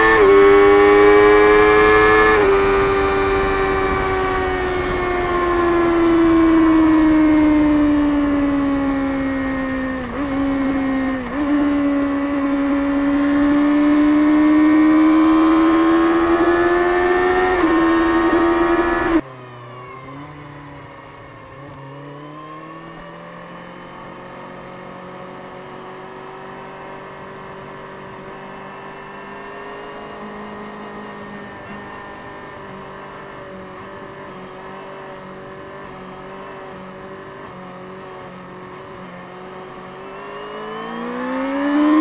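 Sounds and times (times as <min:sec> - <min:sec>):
motorcycle engine running hard: 0:00.0 - 0:19.2, 0:23.7 - 0:42.0.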